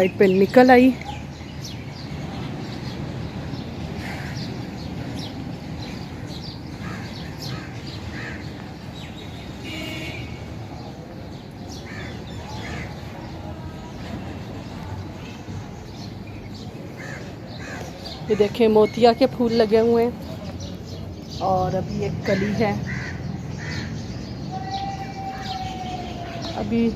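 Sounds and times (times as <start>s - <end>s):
birds chirping and calling: 0.0s - 26.9s
low outdoor background noise: 0.0s - 26.9s.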